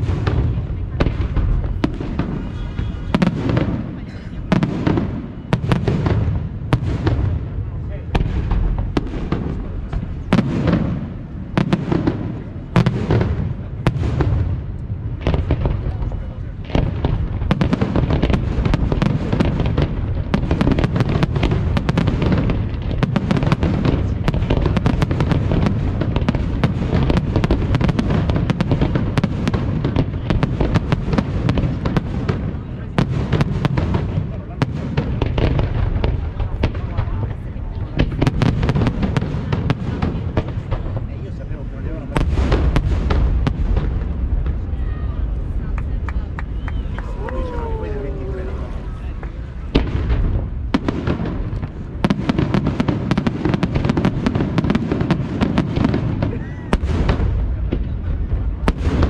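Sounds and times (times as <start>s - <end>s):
fireworks bursting with sharp bangs: 0.0s - 59.0s.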